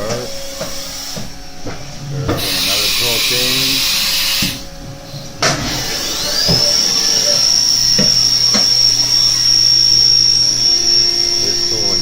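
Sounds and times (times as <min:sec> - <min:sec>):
spindle whine: 0:00.0 - 0:12.0.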